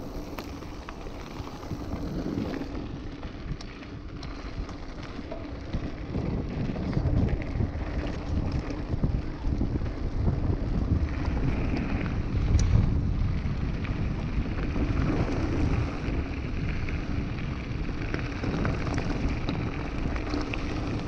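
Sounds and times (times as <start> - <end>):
bike tyres on gravel: 0.0 - 21.0
wind buffeting microphone: 0.0 - 21.0.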